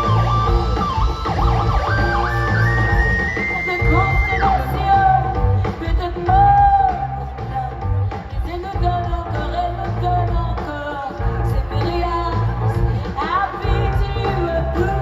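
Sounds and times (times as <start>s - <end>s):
live band playing amplified music: 0.0s - 15.0s
person singing: 1.6s - 15.0s.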